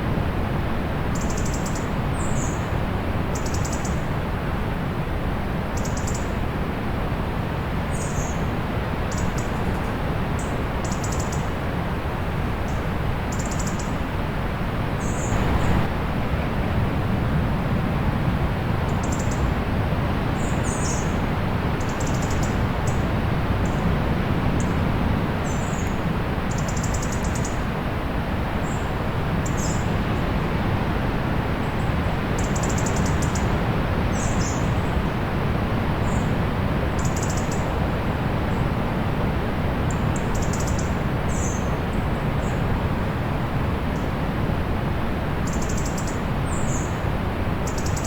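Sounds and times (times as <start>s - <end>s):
distant sea: 0.0s - 48.0s.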